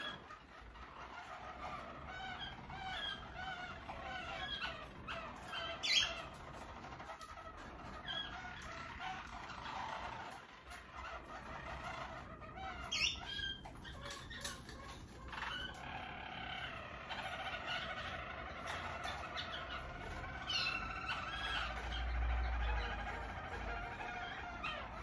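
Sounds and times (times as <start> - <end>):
canaries singing trills: 0.0 - 25.0.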